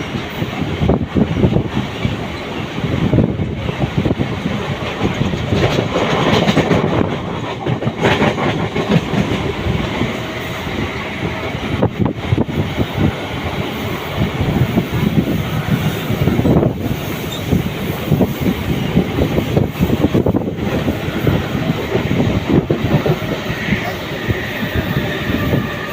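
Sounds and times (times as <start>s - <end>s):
train wheels clattering over rails: 0.0s - 25.9s.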